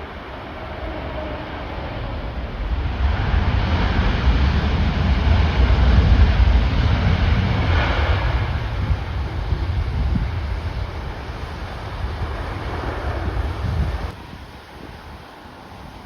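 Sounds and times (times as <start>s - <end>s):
jet airliner engine: 0.0s - 16.0s
wind buffeting microphone: 0.0s - 16.0s.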